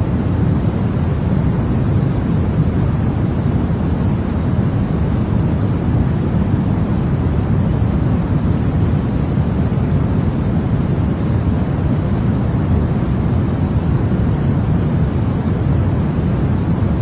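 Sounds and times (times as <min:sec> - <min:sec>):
deep rumbly white noise: 0:00.0 - 0:17.0.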